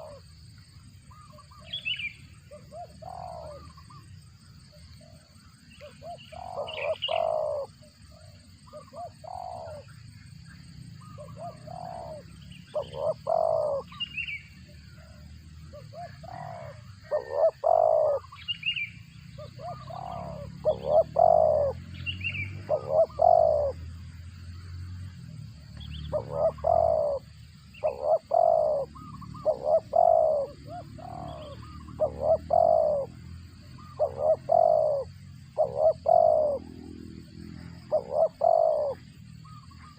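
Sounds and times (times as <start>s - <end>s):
dove cooing: 0.0s - 0.3s, 1.1s - 4.0s, 5.8s - 10.0s, 11.0s - 23.9s, 25.8s - 39.9s.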